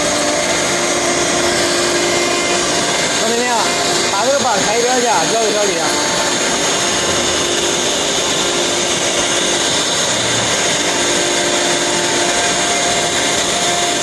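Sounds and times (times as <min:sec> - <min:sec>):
cnc router running: 0:00.0 - 0:14.0.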